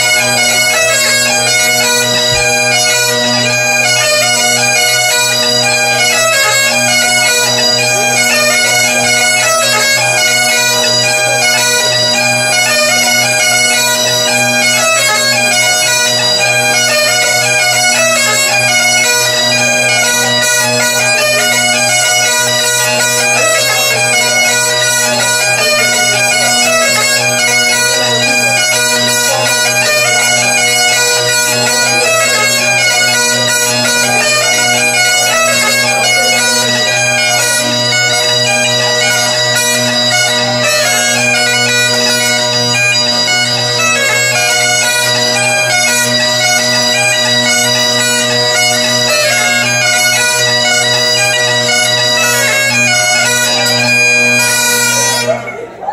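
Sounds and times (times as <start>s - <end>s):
bagpipes playing: 0.0s - 55.9s.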